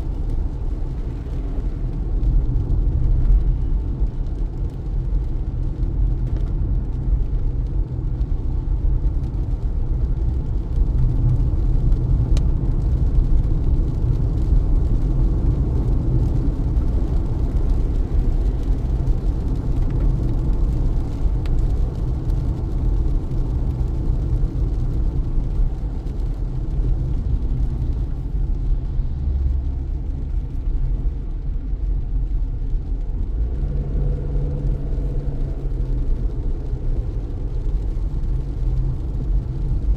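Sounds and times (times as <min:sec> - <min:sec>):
car tyres rumbling on wet road: 0:00.0 - 0:39.9.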